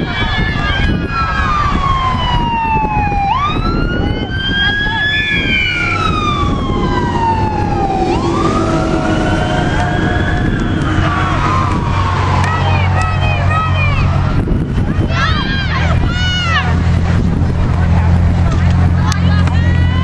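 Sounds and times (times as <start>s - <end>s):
emergency siren wailing: 0.0s - 20.0s.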